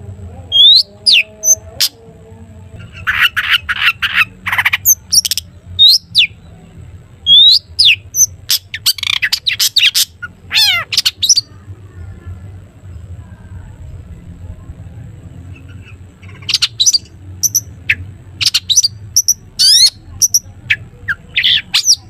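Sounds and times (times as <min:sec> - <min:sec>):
low steady hum: 0:00.0 - 0:22.0
shrike singing: 0:00.0 - 0:22.0.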